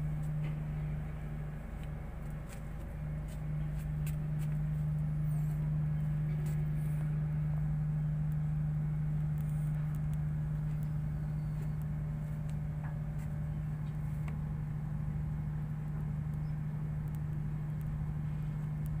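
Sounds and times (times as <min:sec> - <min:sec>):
ship machinery droning: 0:00.0 - 0:19.0.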